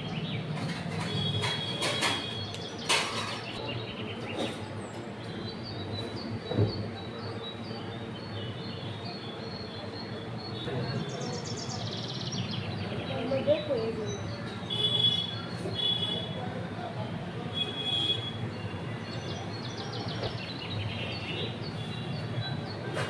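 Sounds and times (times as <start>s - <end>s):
small birds chirping: 0.0s - 16.3s, 17.6s - 23.0s.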